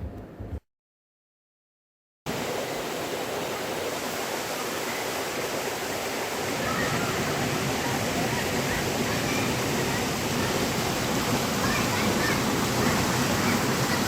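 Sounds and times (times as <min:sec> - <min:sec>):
waterfall rushing: 0:02.3 - 0:14.0.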